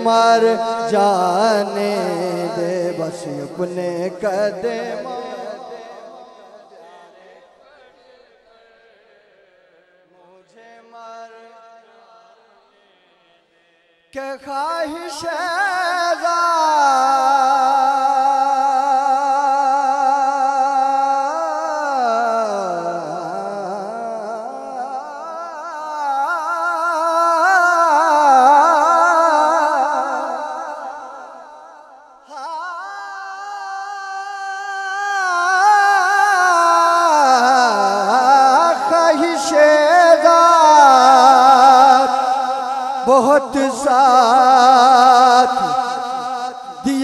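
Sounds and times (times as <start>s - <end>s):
man singing into a microphone: 0.0s - 47.0s.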